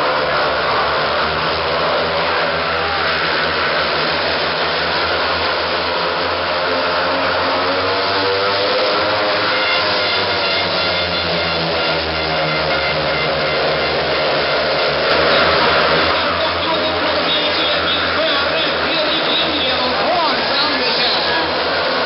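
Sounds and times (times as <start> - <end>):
motorcycle engines racing: 0.0 - 22.0.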